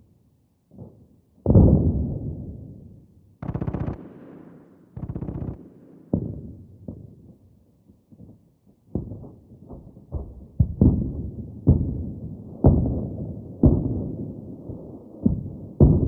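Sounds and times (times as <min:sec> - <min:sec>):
distant muffled explosions: 0:00.7 - 0:16.0.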